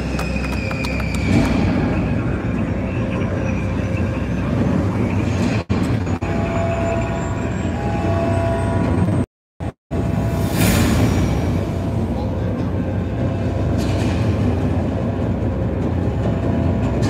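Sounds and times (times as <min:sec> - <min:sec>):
deep rumbling film soundtrack: 0:00.0 - 0:17.0.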